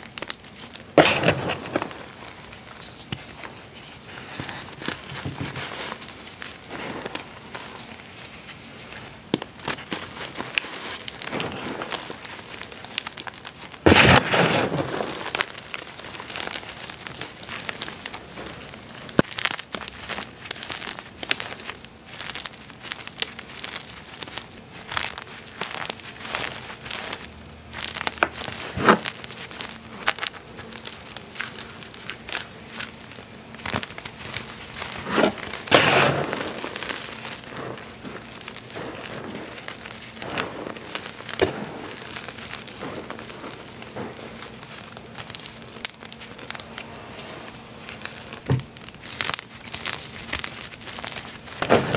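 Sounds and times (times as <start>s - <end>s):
chalk crunching by hand: 0.0s - 51.9s.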